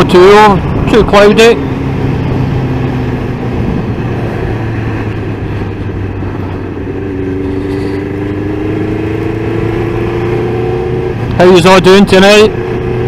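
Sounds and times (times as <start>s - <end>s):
motorcycle engine running: 0.0s - 13.0s
rush of riding wind: 0.0s - 13.0s.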